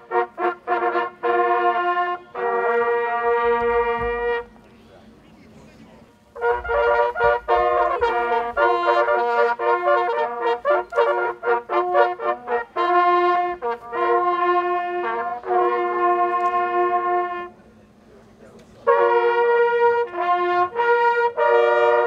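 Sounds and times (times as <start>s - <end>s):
hunting horns playing a fanfare: 0.0s - 4.6s, 6.3s - 17.6s, 18.8s - 22.0s.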